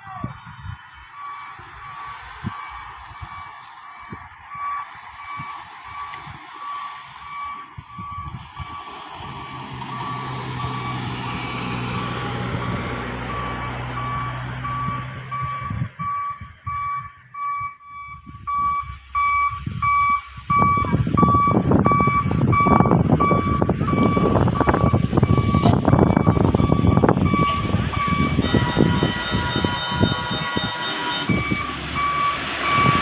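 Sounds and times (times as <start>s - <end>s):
diesel truck engine running: 0.0s - 33.0s
loud rough rumbling: 0.0s - 33.0s
truck reversing alarm beeping: 0.0s - 33.0s.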